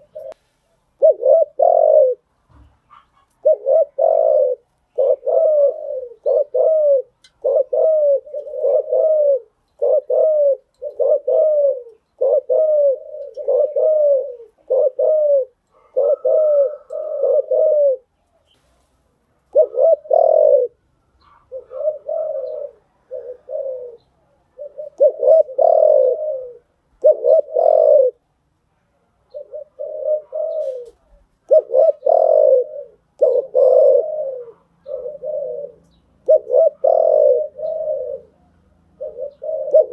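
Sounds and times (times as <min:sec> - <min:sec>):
dove cooing: 0:00.0 - 0:00.4, 0:01.0 - 0:18.6, 0:19.4 - 0:28.3, 0:29.3 - 0:39.9.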